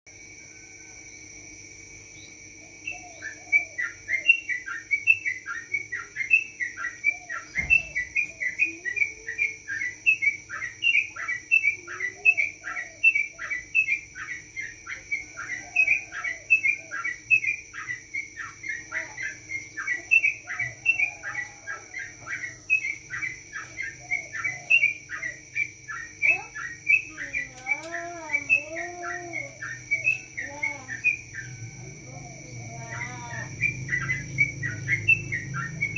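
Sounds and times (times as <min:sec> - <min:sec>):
bulbul singing repeated notes: 0:01.6 - 0:35.9
wavering lower bird call: 0:02.2 - 0:35.9.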